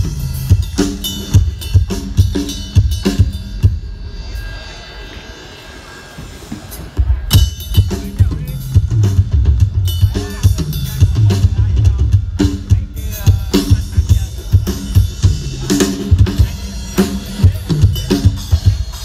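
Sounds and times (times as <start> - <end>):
drum kit through loudspeakers: 0.0 - 19.0.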